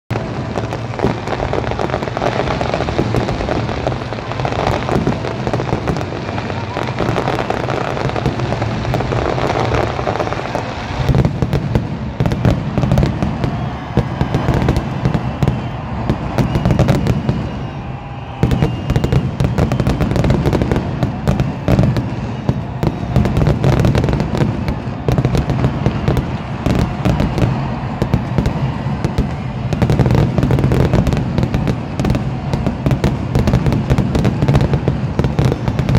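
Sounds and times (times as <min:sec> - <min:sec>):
fireworks bursting and crackling: 0:00.1 - 0:35.9.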